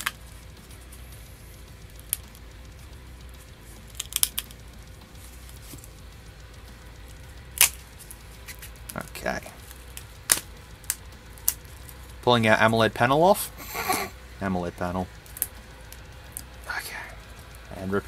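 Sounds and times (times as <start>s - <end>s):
display layers cracking and crackling: 0.0s - 18.0s
faint background music: 0.0s - 18.0s.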